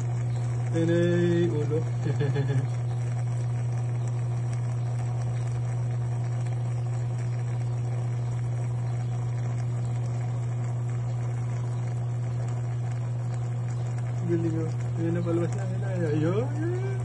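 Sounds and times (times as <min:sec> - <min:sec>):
water pump humming: 0:00.0 - 0:17.0.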